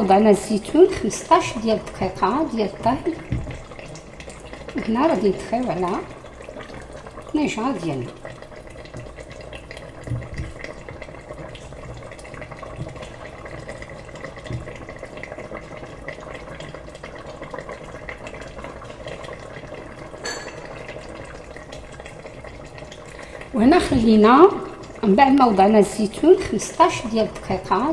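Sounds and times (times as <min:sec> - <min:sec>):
sauce simmering in a metal pot: 0:00.0 - 0:27.9.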